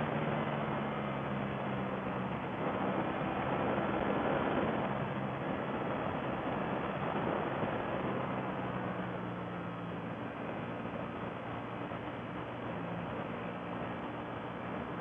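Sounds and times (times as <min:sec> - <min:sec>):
motorcycle engine hum: 0:00.0 - 0:15.0
wind rush: 0:00.0 - 0:15.0.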